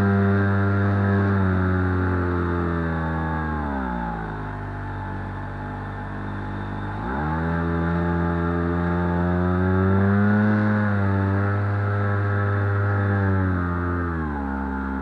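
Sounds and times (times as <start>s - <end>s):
propeller motor buzzing whine: 0.0s - 15.0s.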